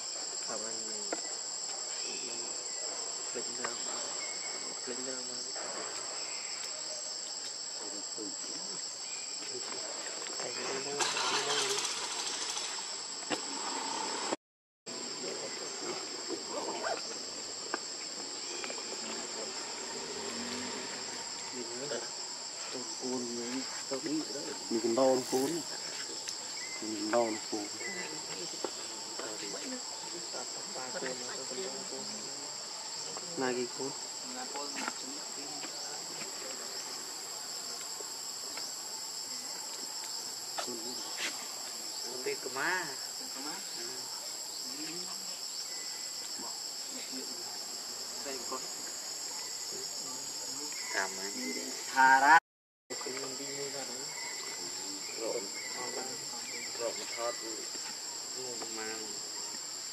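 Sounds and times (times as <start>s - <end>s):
short insect calls: 0.0s - 59.9s
high-pitched insect drone: 10.3s - 14.4s, 15.0s - 59.9s.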